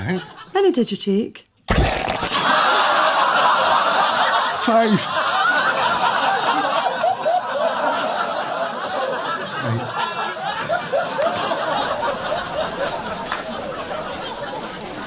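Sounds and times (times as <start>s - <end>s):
audience laughing: 2.0s - 15.0s.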